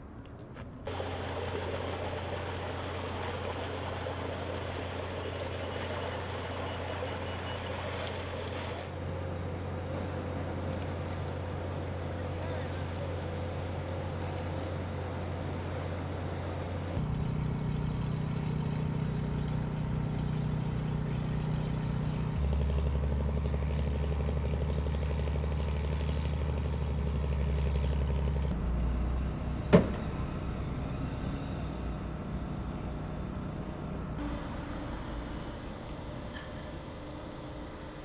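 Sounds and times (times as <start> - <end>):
machinery engine droning: 0.0 - 38.0.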